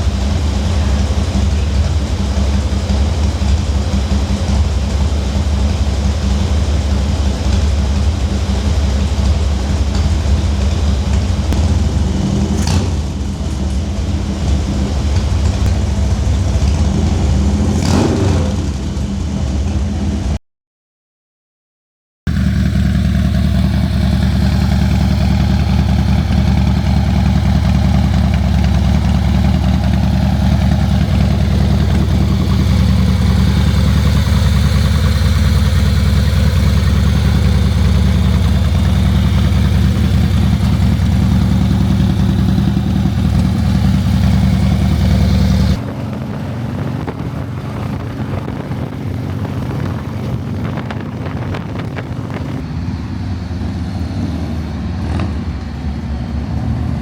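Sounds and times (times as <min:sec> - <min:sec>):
motorcycle engine idling: 0:00.0 - 0:17.9, 0:22.3 - 0:52.6.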